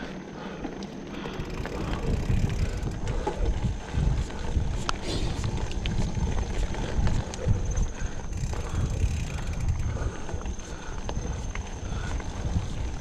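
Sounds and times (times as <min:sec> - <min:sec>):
bike clicks and rattles: 0:00.0 - 0:13.0
wind rumble on microphone: 0:01.2 - 0:13.0.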